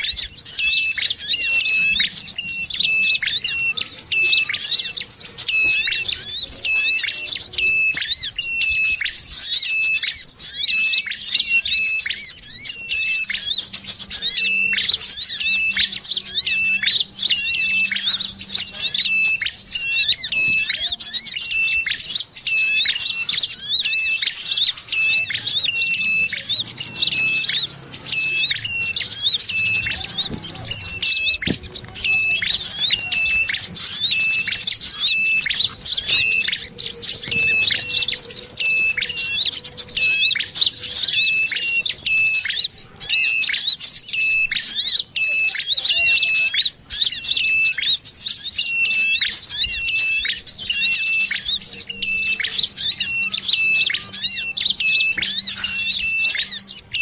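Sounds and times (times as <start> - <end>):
birds twittering chatter: 0.0 - 57.0.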